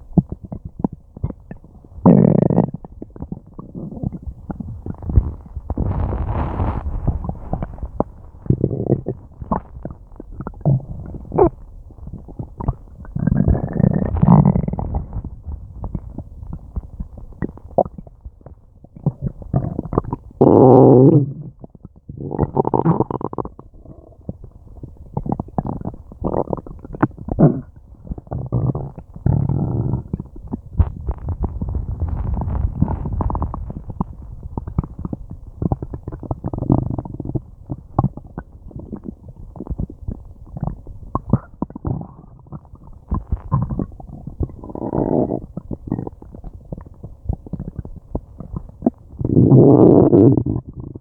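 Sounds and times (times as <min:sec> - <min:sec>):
low stomach growl: 0:00.0 - 0:51.0
stomach gurgling: 0:00.0 - 0:51.0.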